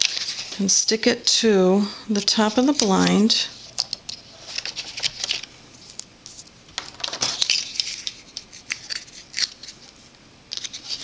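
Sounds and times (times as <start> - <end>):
paper rustling and crackling: 0.0 - 0.7, 2.2 - 11.0.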